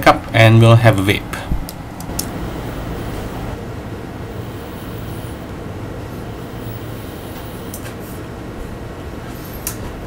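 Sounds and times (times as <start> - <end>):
low rumble of room noise: 0.0 - 10.0.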